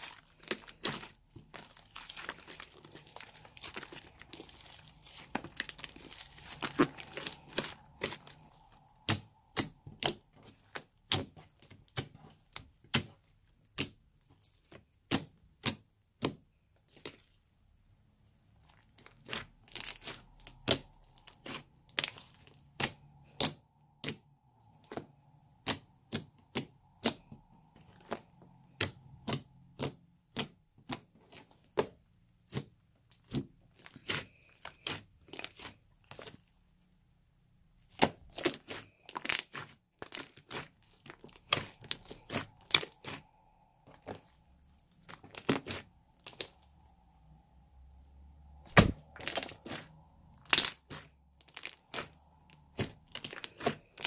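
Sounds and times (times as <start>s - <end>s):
slime crackling: 0.0s - 17.5s, 18.6s - 36.6s, 37.8s - 47.4s, 48.4s - 54.0s.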